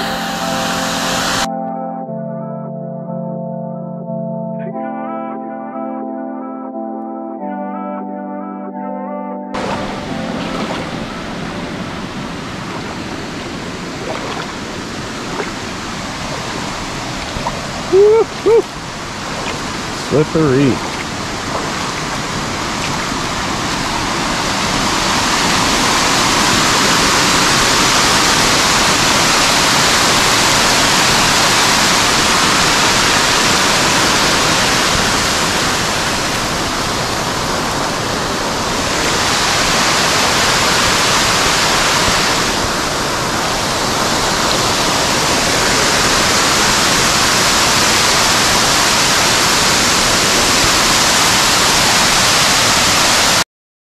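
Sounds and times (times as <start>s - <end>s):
waterfall rushing into pool: 0.0s - 1.5s, 9.6s - 53.4s.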